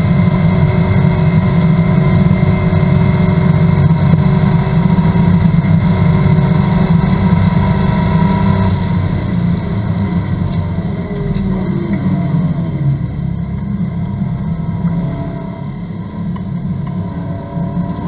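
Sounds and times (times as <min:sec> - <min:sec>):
race car engine drone: 0:00.0 - 0:18.0.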